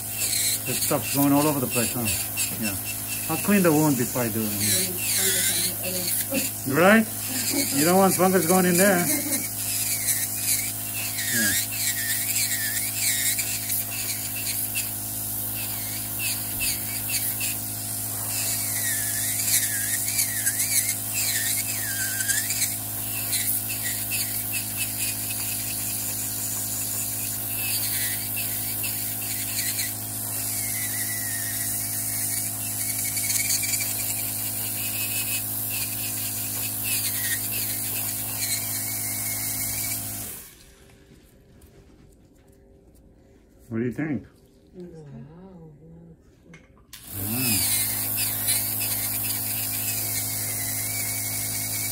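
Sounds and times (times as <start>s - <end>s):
nail drill grinding toenail: 0.0s - 40.5s, 47.0s - 51.9s.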